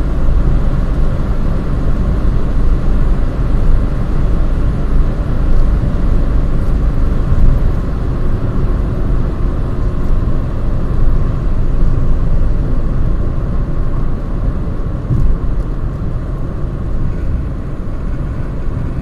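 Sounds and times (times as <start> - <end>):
car engine rumble: 0.0 - 19.0
road and wind noise: 0.0 - 19.0.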